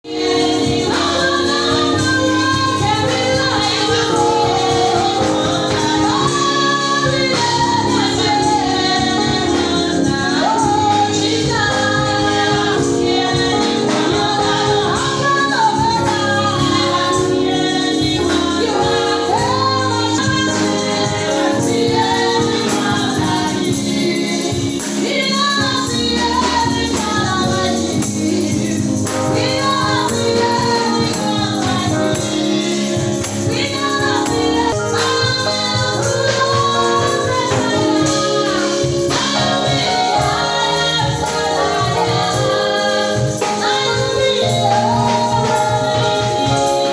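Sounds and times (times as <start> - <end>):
gospel choir singing: 0.0 - 46.9
keyboard: 0.0 - 46.9
tambourine: 0.0 - 46.9.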